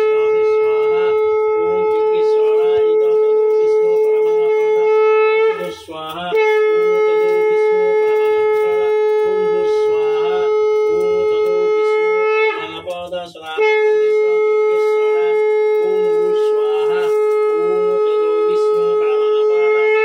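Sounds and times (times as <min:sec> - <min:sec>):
conch shell blown: 0:00.0 - 0:20.0.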